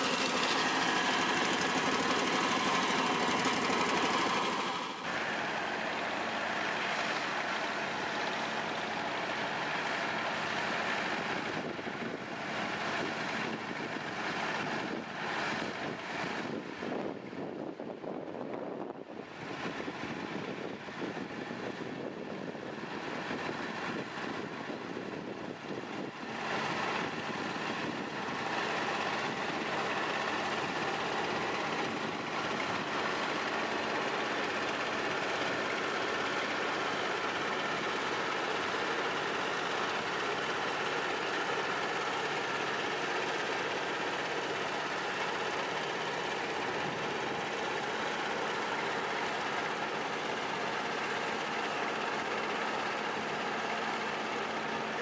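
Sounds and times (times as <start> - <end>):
road marking machine engine: 0.0 - 55.0.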